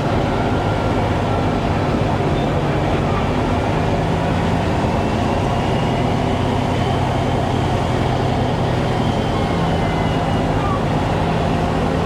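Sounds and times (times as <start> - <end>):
road and cab noise: 0.0 - 12.0
truck engine droning: 0.0 - 12.0.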